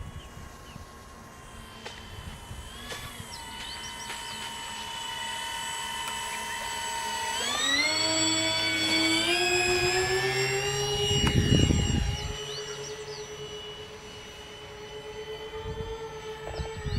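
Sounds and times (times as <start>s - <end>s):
model plane electric motors whining: 0.0s - 16.9s.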